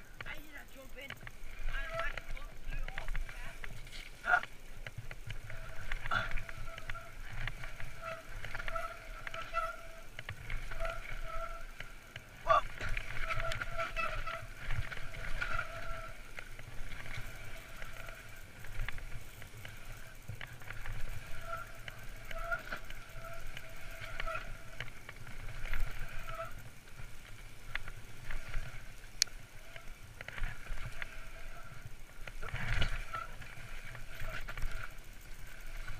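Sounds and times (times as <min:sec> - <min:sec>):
bike rattles and clicks: 0:00.0 - 0:35.9
buzzing tone: 0:00.0 - 0:35.9
tyres and wind rumbling: 0:00.0 - 0:35.9.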